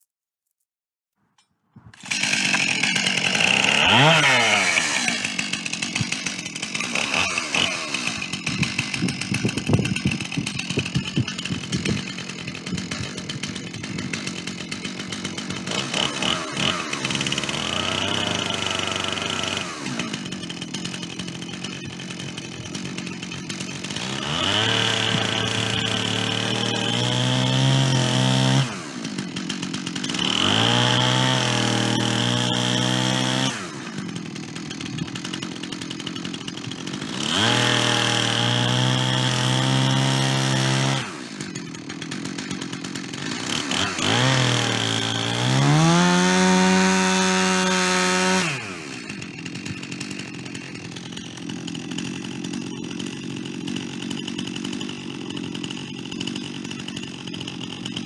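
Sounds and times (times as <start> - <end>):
chainsaw cutting wood: 1.3 - 58.0
chainsaw revving and idling: 1.8 - 58.0.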